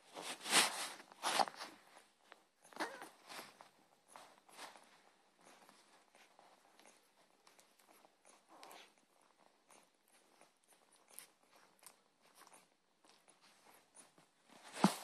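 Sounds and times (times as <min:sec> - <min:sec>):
puppies rustling and clicking: 0:00.0 - 0:15.0.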